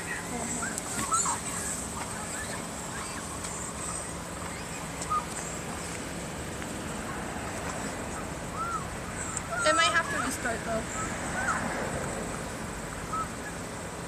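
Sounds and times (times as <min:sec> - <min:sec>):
faint constant hum: 0:00.0 - 0:14.0
low outdoor rumble: 0:00.0 - 0:14.0.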